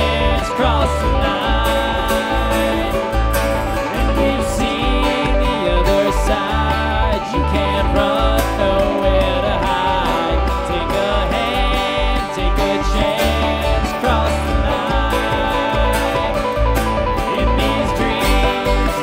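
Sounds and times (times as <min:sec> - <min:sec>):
banjo picking: 0:00.0 - 0:19.0
guitar picking: 0:00.0 - 0:19.0
upright bass pulse: 0:00.0 - 0:19.0.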